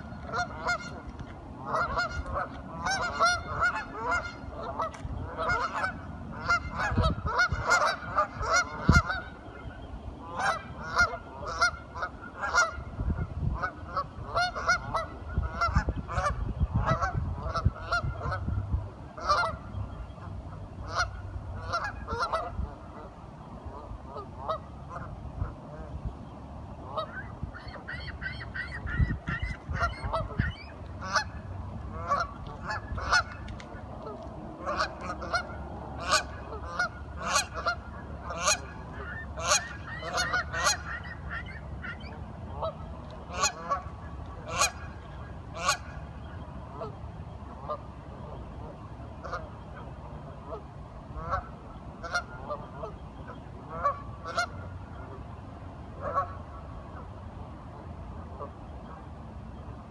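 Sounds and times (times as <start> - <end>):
ducks quacking: 0.0 - 18.5, 19.2 - 23.1, 26.8 - 47.0, 47.6 - 55.2.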